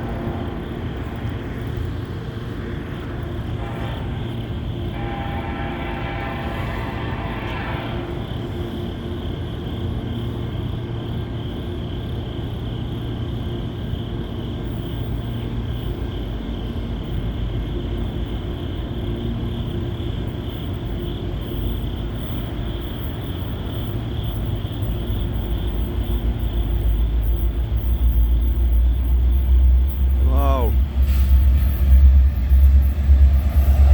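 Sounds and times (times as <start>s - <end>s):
freight train passing: 0.0s - 33.9s.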